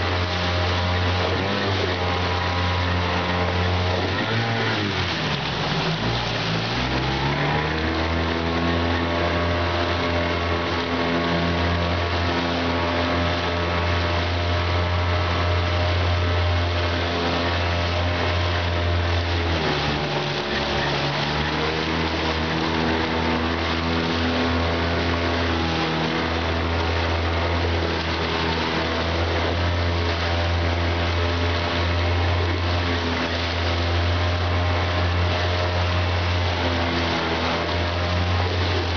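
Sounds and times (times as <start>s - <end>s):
small outboard motor running: 0.0s - 38.9s
water rushing along hull: 0.0s - 38.9s.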